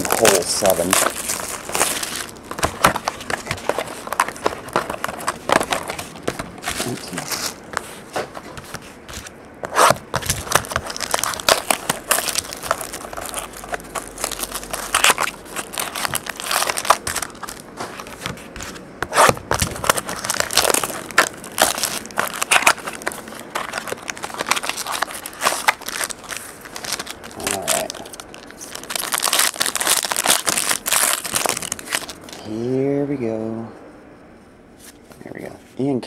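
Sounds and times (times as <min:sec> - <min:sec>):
plastic wrap and foil crinkling: 0:00.0 - 0:32.5.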